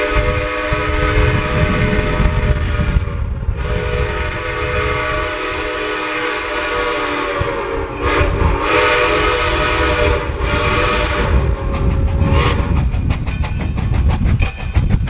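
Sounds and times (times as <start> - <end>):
steam locomotive whistle: 0.0 - 12.8.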